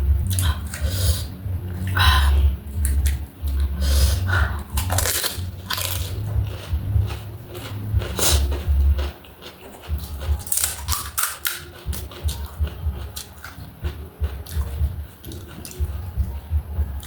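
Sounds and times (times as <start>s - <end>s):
chewing crisp food: 2.7s - 17.0s.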